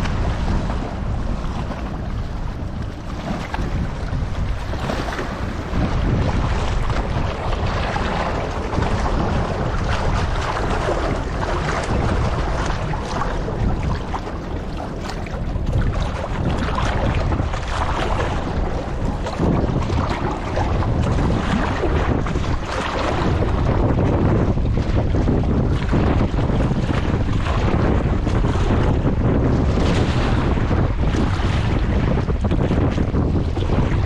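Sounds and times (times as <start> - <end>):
gusty wind buffeting microphone: 0.0 - 34.0
river waves lapping and splashing: 0.0 - 34.0.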